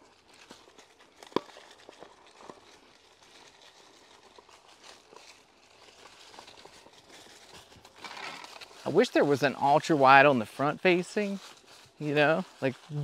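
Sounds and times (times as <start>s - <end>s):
leaf litter and twigs crunching: 0.0s - 13.0s.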